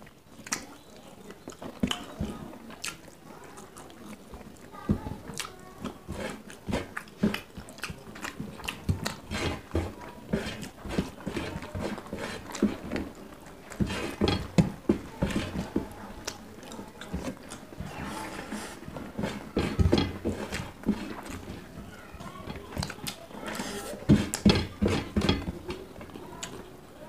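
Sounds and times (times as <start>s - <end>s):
chewing and lip-smacking: 0.0s - 24.4s
fingers mixing rice on steel plates: 0.0s - 26.7s.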